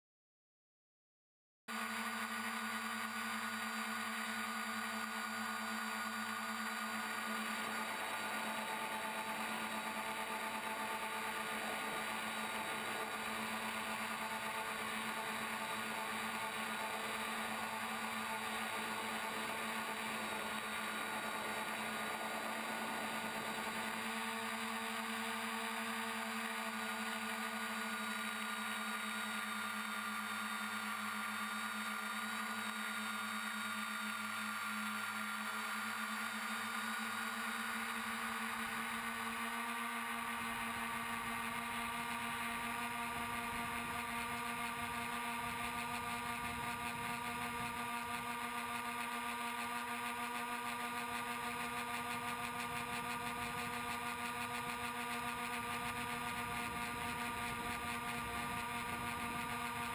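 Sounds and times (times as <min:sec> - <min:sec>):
drone motors and propellers whirring: 0:01.7 - 0:59.9.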